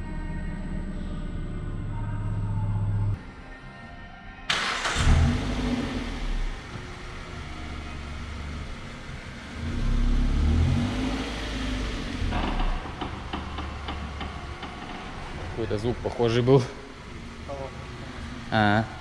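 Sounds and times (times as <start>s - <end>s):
low drone of vibrating plates: 0.0s - 3.2s, 6.4s - 19.0s.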